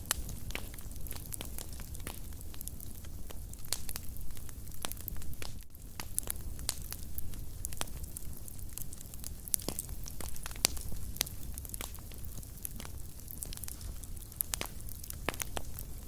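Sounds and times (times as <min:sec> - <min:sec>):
fire pops and snaps: 0:00.0 - 0:16.0
low rumble of flames: 0:00.0 - 0:16.0.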